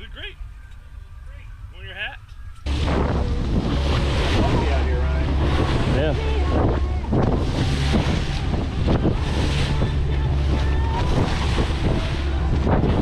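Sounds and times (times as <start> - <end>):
water rushing along hull: 0.0 - 13.0
wind buffeting microphone: 0.0 - 13.0
motorboat engine hum: 2.4 - 13.0.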